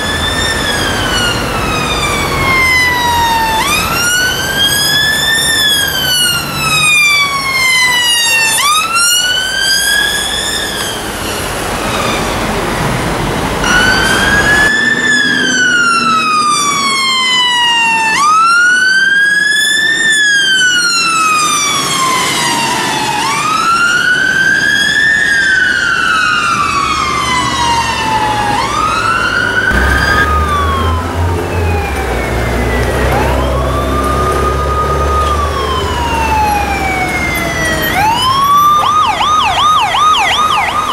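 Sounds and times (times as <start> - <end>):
emergency vehicle sirens wailing: 0.0 - 40.9
engine and road rumble: 0.0 - 40.9.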